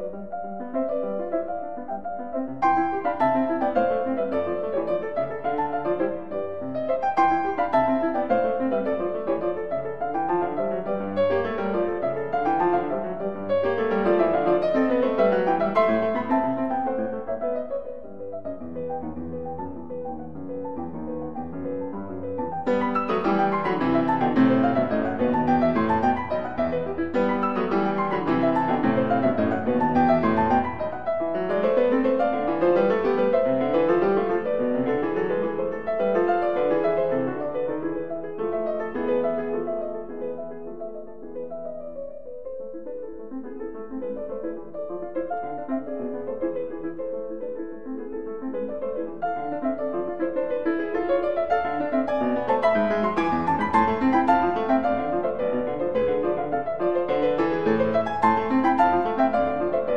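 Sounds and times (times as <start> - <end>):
piano music with quick runs: 0.0 - 59.9.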